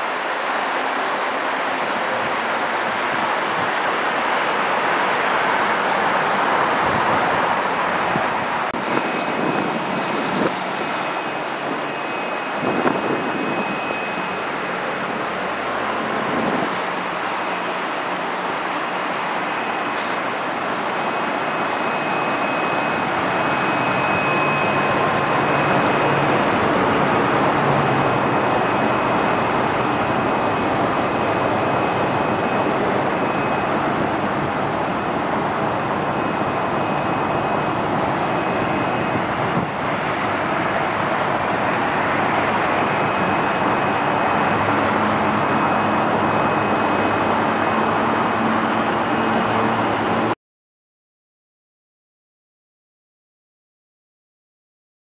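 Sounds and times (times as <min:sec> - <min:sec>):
expressway traffic noise: 0:00.0 - 0:50.4.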